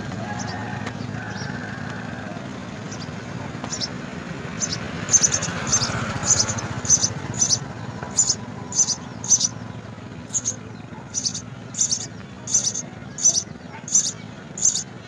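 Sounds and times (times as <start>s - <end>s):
sparrows chirping: 0.0s - 15.0s
steady low hum: 2.7s - 15.0s.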